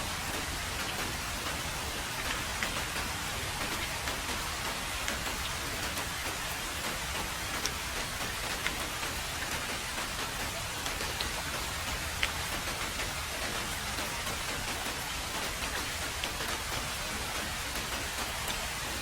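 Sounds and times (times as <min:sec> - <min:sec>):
heavy rain on a road: 0:00.0 - 0:19.0.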